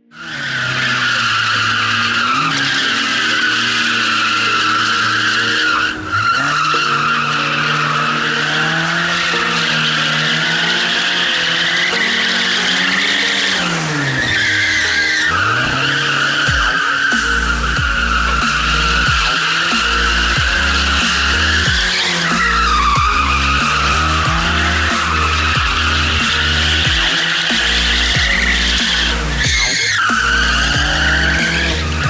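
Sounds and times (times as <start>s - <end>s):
car engine at high revs: 0.0s - 32.0s
tyres squealing: 0.0s - 32.0s.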